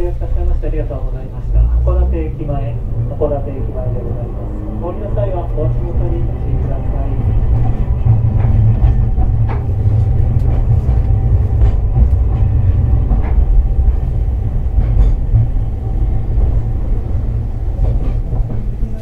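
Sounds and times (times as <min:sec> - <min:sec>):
tram wheels and motors rumbling: 0:00.0 - 0:19.0.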